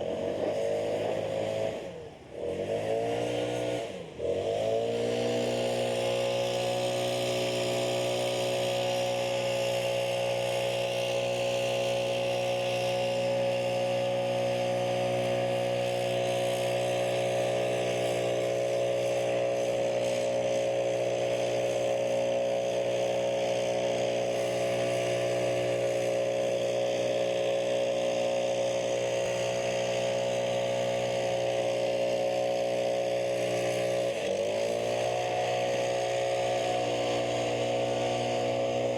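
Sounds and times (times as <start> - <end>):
engine running at high speed: 0.0 - 38.9.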